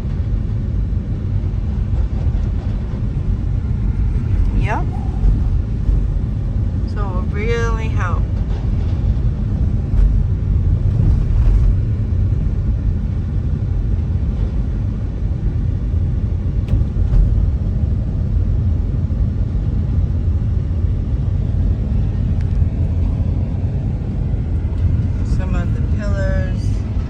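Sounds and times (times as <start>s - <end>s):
car engine and tyre noise: 0.0s - 27.0s.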